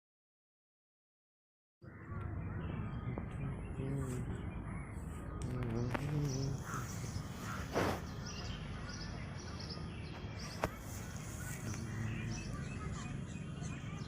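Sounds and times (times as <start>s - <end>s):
birds chirping: 1.8s - 14.0s
steady low hum: 2.3s - 14.0s.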